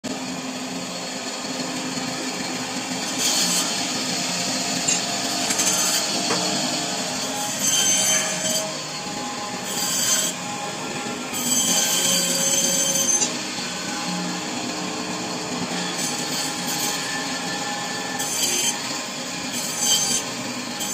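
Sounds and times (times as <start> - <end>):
band saw running: 0.0 - 20.9.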